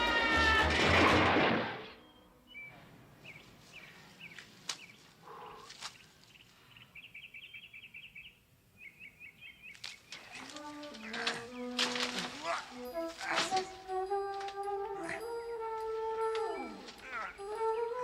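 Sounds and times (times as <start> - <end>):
small birds chirping: 2.0 - 14.1, 14.8 - 18.0.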